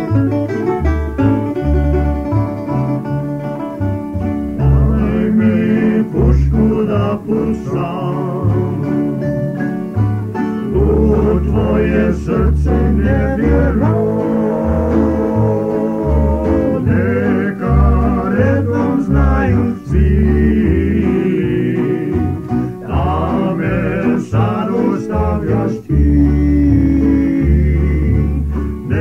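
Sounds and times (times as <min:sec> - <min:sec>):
plucked-string band playing: 0:00.0 - 0:29.0
person singing: 0:04.4 - 0:09.6, 0:10.4 - 0:29.0.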